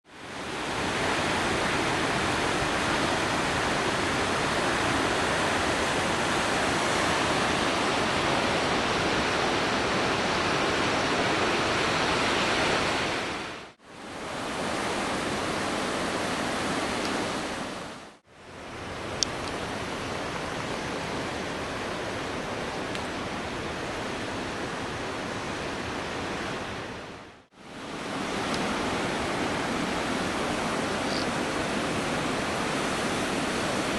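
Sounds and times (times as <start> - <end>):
rough surf: 0.1 - 33.9
wind on seashore: 0.1 - 33.9.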